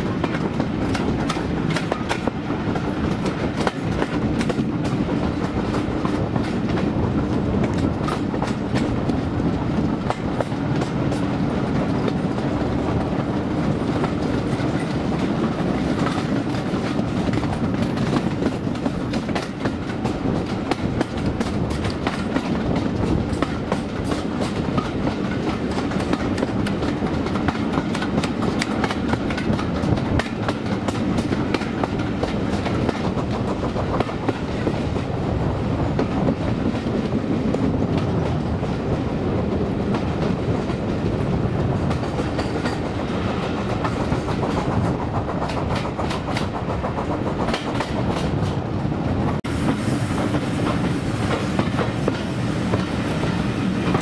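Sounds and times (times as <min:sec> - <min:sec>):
train wheels rumbling and clacking: 0:00.0 - 0:54.0.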